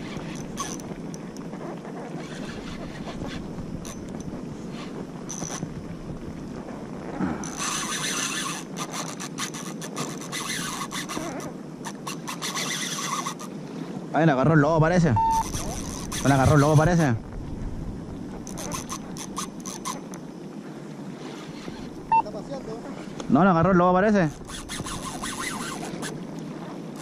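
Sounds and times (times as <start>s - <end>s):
rubbing and scraping on kayak: 0.0s - 14.0s, 15.0s - 20.4s, 21.0s - 27.0s
wind and water noise: 0.0s - 27.0s.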